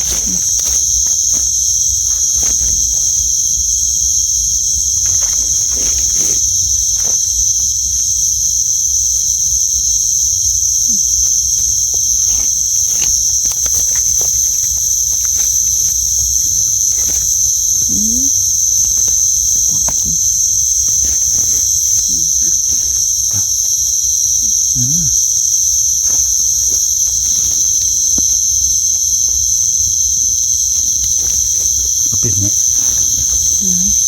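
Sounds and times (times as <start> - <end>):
crickets trilling: 0.0 - 34.0
faint clicks and rustles: 0.0 - 34.0.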